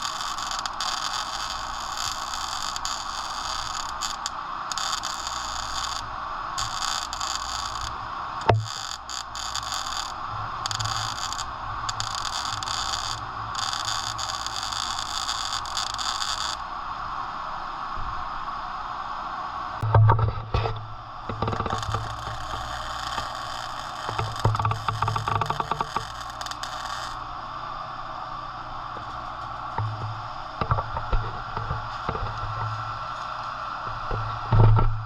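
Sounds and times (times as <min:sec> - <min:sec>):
welding crackling: 0:00.0 - 0:16.7, 0:20.5 - 0:34.5
welding hiss and hum: 0:00.0 - 0:35.0.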